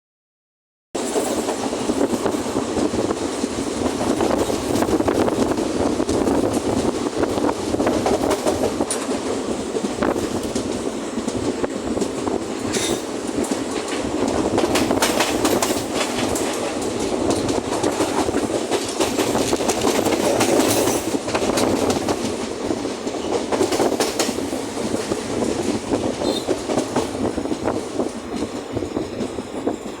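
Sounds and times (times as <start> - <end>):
train rumble: 1.0 - 30.0
wheels clattering over rail joints: 1.0 - 30.0.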